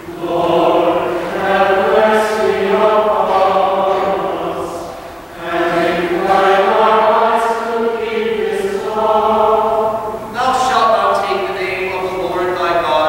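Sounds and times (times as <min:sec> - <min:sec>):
choir chanting: 0:00.0 - 0:11.4.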